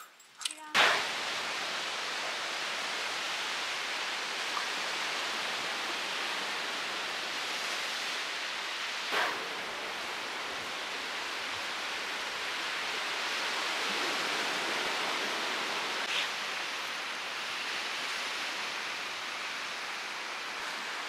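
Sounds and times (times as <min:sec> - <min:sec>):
sea surf on a beach: 0:00.8 - 0:21.0.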